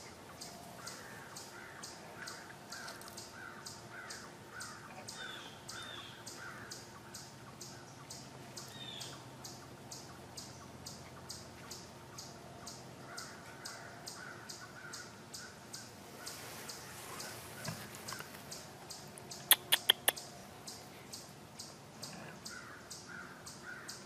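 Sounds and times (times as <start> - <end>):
high bird calls: 0.0 - 24.0.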